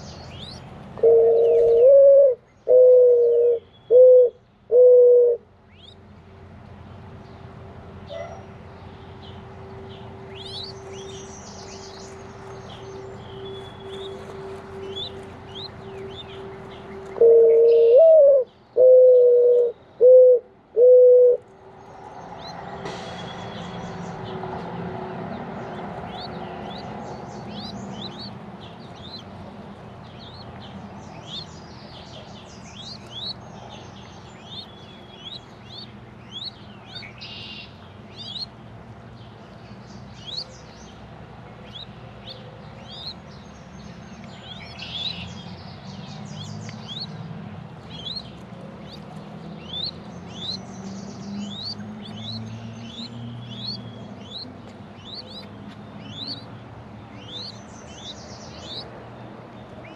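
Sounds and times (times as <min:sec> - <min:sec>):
small birds chirping: 0:00.0 - 0:04.7, 0:05.6 - 0:18.8, 0:21.4 - 0:59.9.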